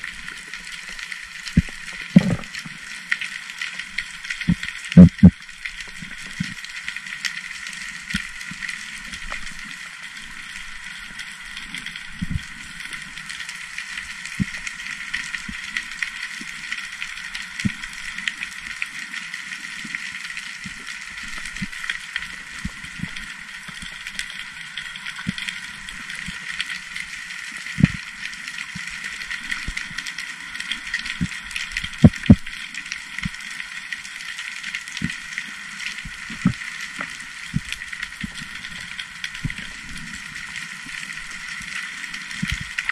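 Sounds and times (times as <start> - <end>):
underwater crackling hiss: 0.0 - 42.9.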